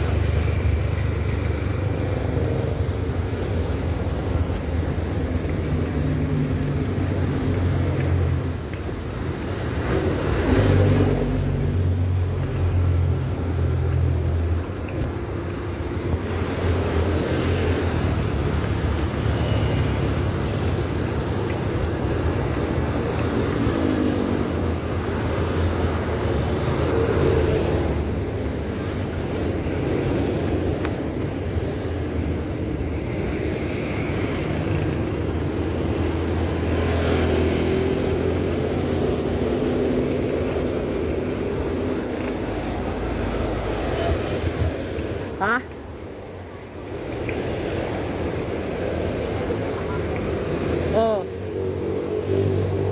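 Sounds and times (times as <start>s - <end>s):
road traffic: 0.0s - 52.9s
wind rumble on microphone: 0.0s - 52.9s.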